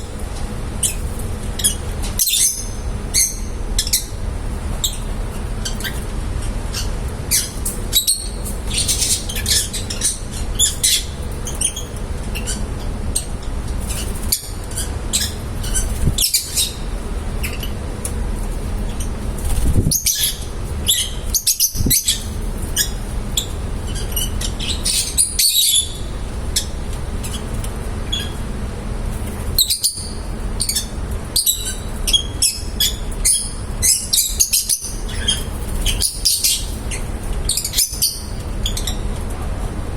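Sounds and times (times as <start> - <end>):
steady low hum: 0.0 - 39.9
lovebirds chirping and squawking: 0.8 - 17.8, 18.7 - 28.4, 29.2 - 39.1.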